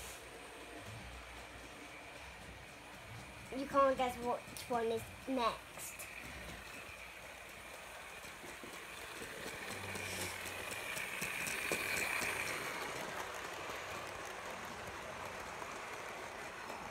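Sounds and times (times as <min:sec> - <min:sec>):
model train wheels clicking on rails: 0:00.0 - 0:16.9.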